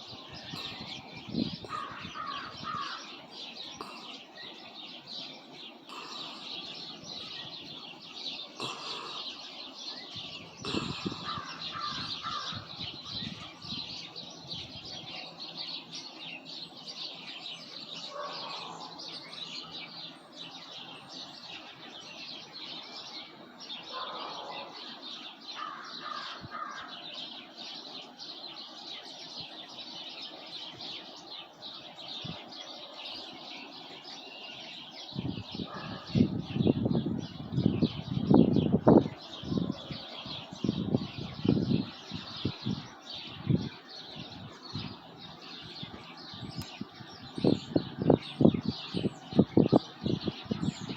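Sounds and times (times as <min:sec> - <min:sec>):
lower bird calls: 0:00.0 - 0:50.9
small birds chirping: 0:00.0 - 0:50.9.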